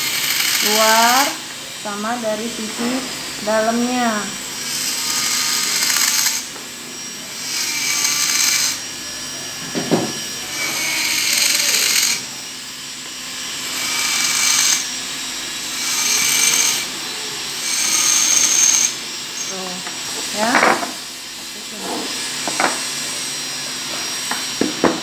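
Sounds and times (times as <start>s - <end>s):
dental micromotor running: 0.0s - 25.0s.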